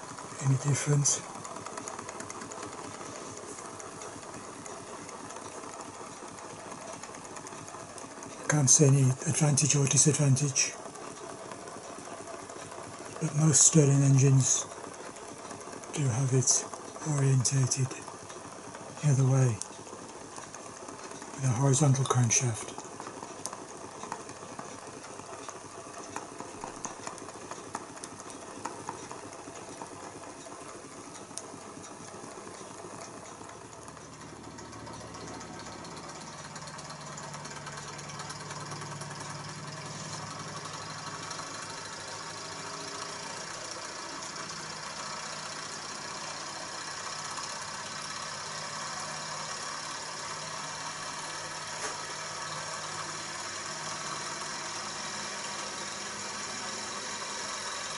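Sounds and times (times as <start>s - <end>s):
model engine ticking: 0.0s - 57.9s
steady engine hum: 0.0s - 57.9s.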